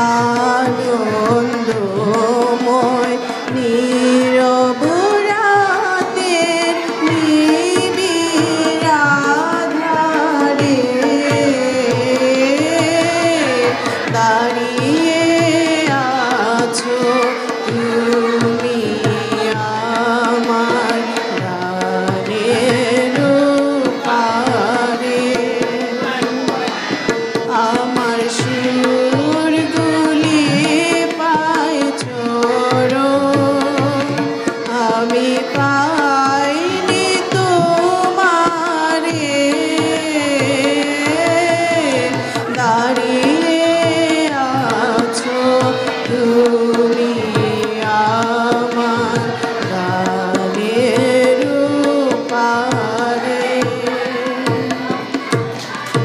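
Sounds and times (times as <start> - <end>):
harmonium: 0.0 - 56.0
tabla rhythm: 0.0 - 56.0
woman singing: 0.0 - 56.0.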